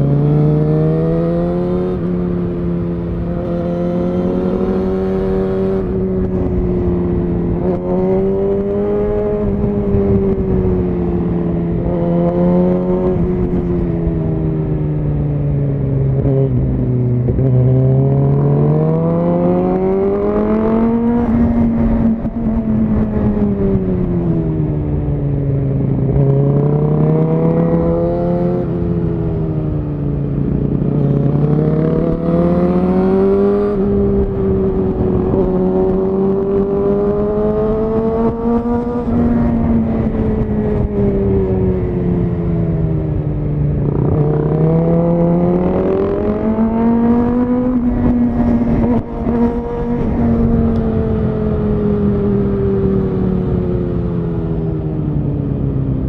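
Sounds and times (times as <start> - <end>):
motorcycle engine revving: 0.0 - 14.5, 16.1 - 24.4, 26.1 - 54.8.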